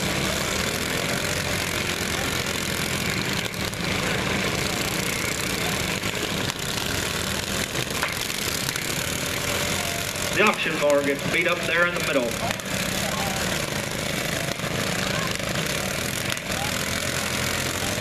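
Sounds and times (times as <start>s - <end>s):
lawn mower engines droning: 0.0s - 18.0s.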